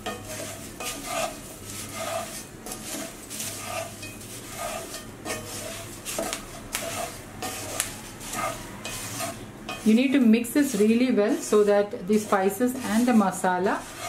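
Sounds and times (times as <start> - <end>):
spatula scraping metal pot: 0.0 - 14.0.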